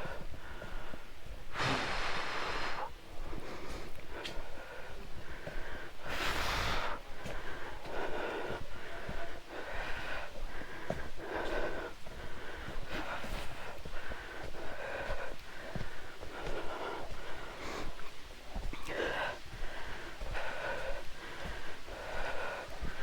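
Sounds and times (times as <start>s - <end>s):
person breathing heavily: 0.0s - 23.0s.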